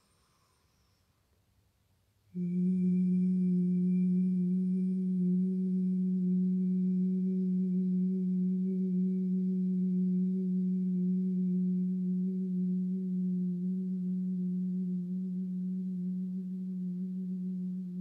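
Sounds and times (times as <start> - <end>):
steady low sustained tone: 2.3 - 18.0.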